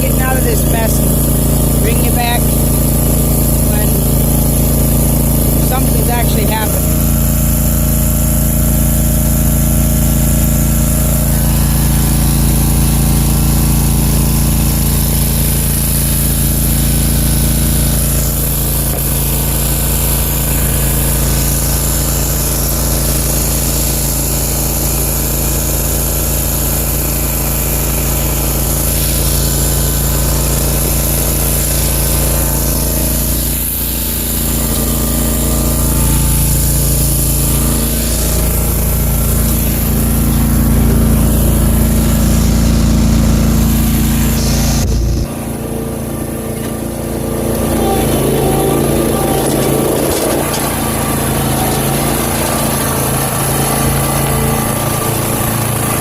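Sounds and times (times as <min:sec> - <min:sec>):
mower engine running: 0:00.0 - 0:56.0.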